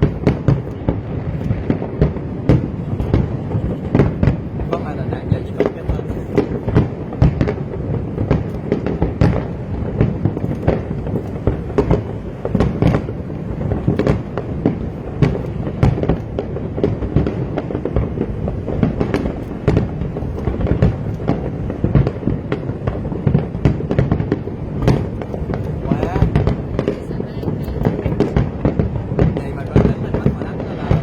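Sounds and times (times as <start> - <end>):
fireworks bangs and crackles: 0.0 - 31.0
low rumble of booming bursts: 0.0 - 31.0.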